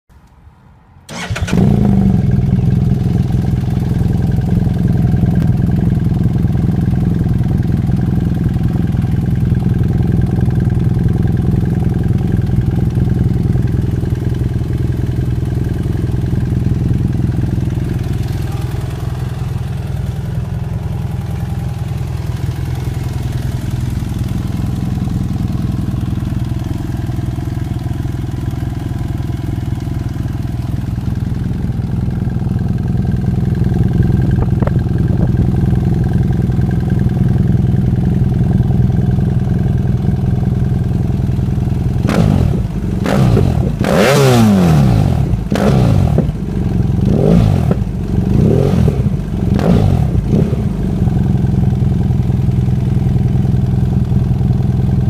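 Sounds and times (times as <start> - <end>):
motorcycle engine idling: 1.1 - 55.0.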